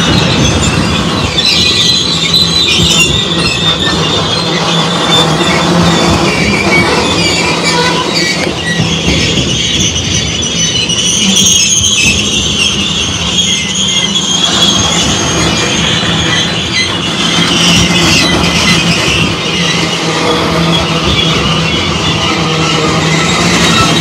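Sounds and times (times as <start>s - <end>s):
high-pitched wheel squeal: 0.0s - 24.0s
train wheels rumbling on rails: 0.0s - 24.0s.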